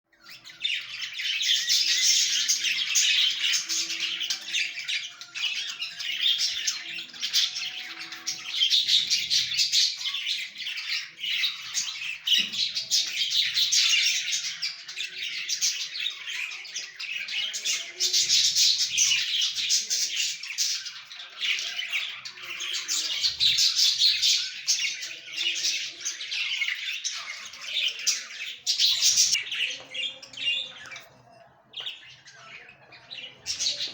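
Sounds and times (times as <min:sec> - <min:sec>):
budgerigars chattering: 0:00.2 - 0:33.9.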